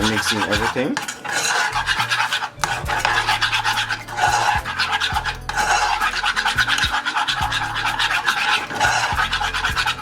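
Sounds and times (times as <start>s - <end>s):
utensil scraping a dish: 0.0s - 10.0s.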